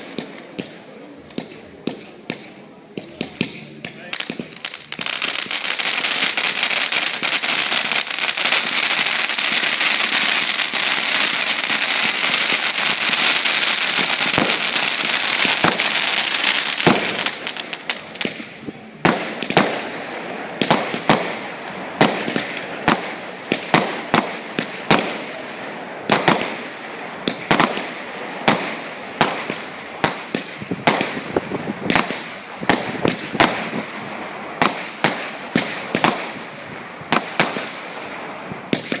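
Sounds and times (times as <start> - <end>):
fireworks crackling: 0.0 - 39.0
fireworks sharp bangs: 0.0 - 39.0.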